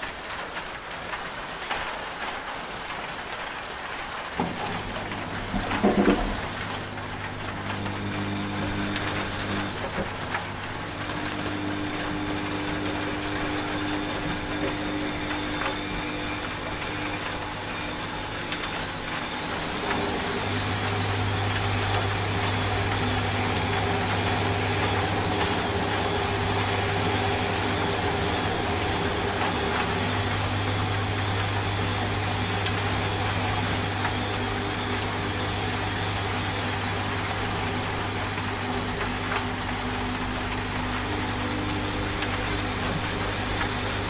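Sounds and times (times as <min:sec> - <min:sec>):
rain hiss: 0:00.0 - 0:44.0
washing machine motor hum: 0:02.4 - 0:44.0.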